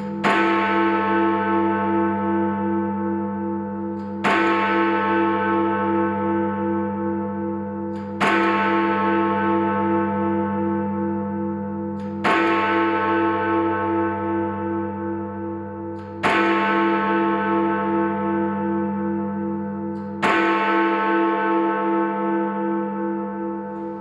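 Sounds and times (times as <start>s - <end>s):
large bell striking: 0.0s - 24.0s.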